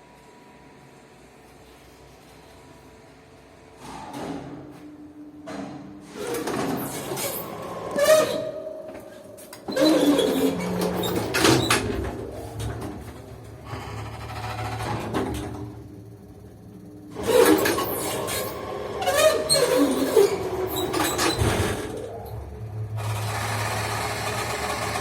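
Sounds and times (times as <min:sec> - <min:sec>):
low machinery hum: 0:00.0 - 0:25.0.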